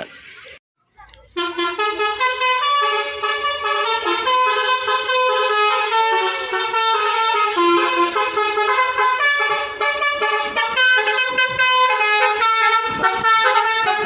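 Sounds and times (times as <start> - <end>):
musical bus horn tune: 1.3 - 14.0.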